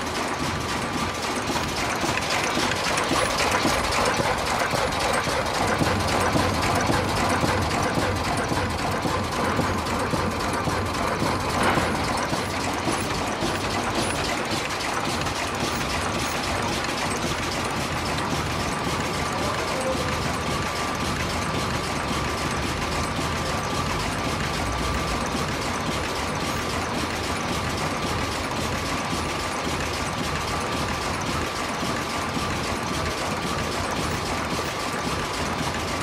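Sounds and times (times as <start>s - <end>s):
machine rapid clicking clatter: 0.0s - 36.0s.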